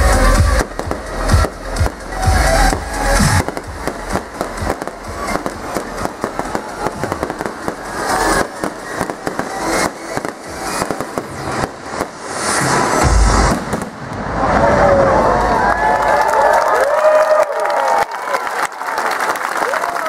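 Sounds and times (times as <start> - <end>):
fireworks cracking and banging: 0.0 - 17.4.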